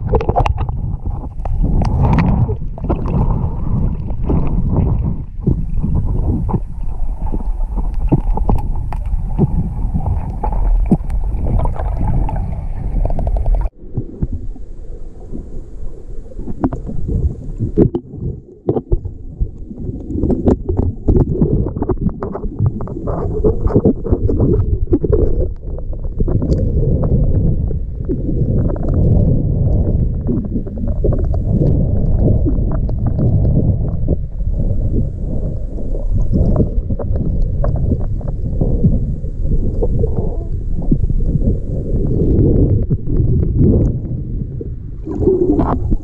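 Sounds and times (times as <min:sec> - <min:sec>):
muffled underwater rumble: 0:00.0 - 0:46.0.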